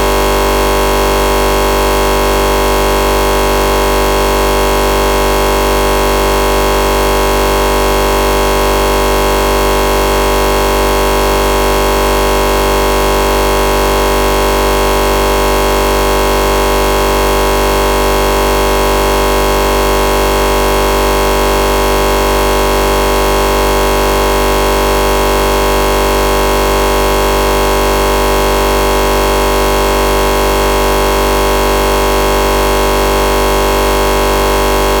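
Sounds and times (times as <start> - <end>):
harsh looping computer buzz: 0.0 - 35.0.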